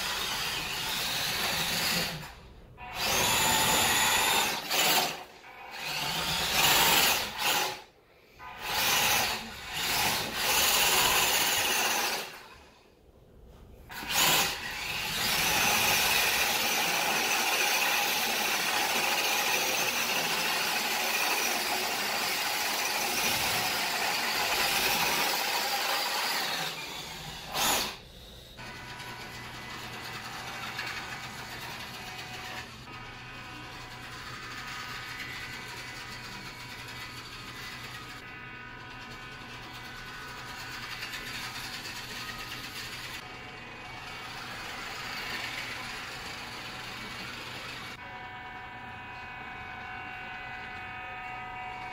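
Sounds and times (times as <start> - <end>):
toy truck motor whirring: 0.0 - 12.7, 13.9 - 48.0.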